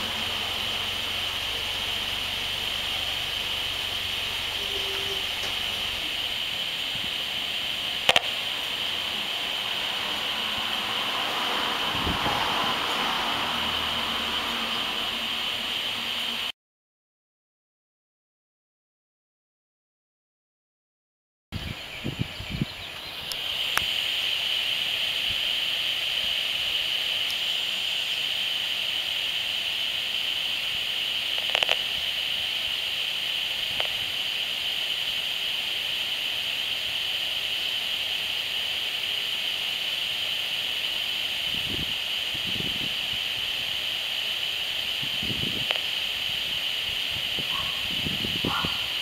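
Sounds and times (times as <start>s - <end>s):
steady high hiss: 0.0s - 16.5s, 21.6s - 49.0s.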